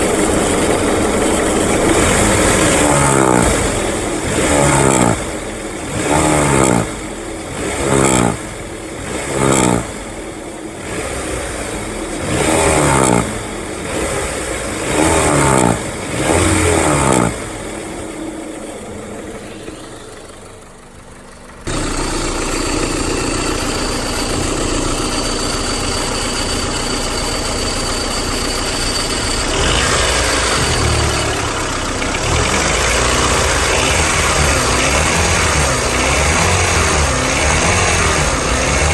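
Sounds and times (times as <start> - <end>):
car engine idling: 0.0 - 38.9
car engine revving: 0.0 - 38.9.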